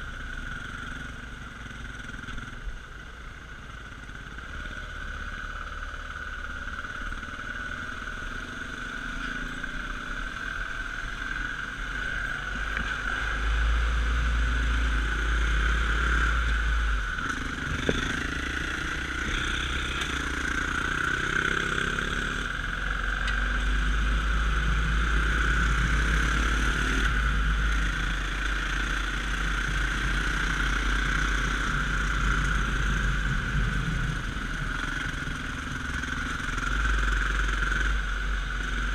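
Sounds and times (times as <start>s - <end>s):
dirt bike engine running: 3.6s - 38.9s.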